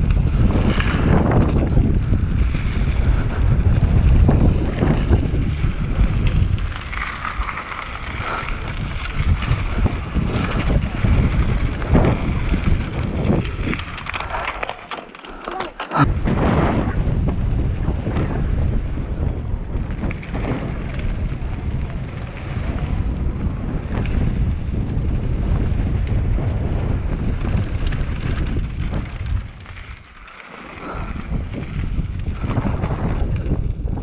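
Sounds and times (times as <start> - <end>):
bike tyres rattling over gravel: 0.0 - 34.0
wind buffeting microphone: 0.0 - 34.0.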